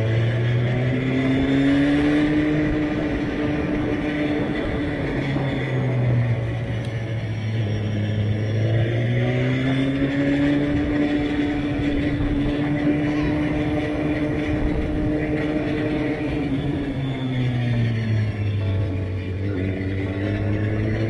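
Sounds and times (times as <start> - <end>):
motorcycle engine accelerating: 0.0 - 21.0
road noise: 0.0 - 21.0.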